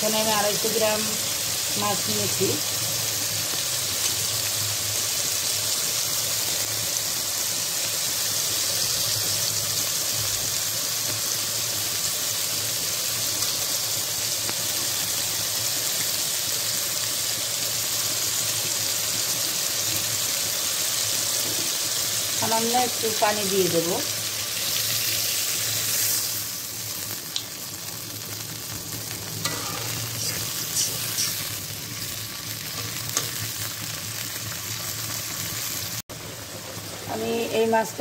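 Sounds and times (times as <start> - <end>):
masala sizzling in oil: 0.0 - 38.0.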